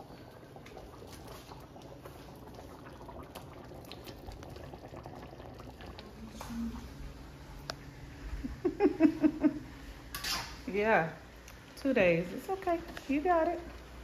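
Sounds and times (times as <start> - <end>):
sauce bubbling in a skillet: 0.0 - 14.0.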